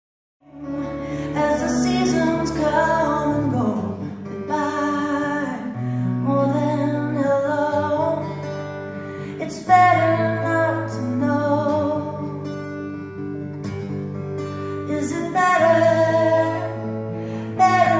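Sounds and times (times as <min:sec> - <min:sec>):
live band with guitar: 0:00.4 - 0:17.9.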